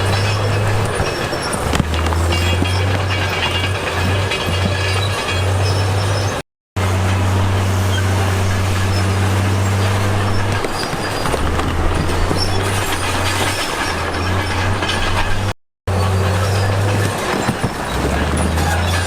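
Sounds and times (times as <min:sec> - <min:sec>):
heavy diesel machinery running: 0:00.0 - 0:19.0
rough grinding noise: 0:00.0 - 0:19.0.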